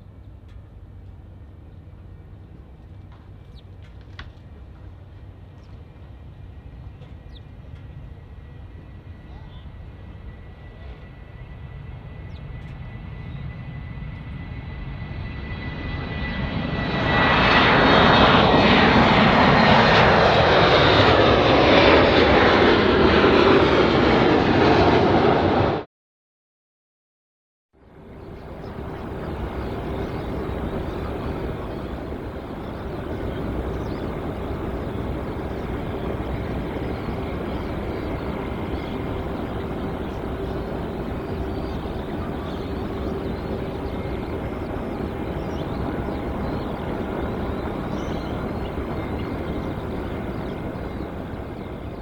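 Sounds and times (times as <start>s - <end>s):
jet engines rumbling and whining: 0.0s - 25.9s, 27.8s - 52.0s.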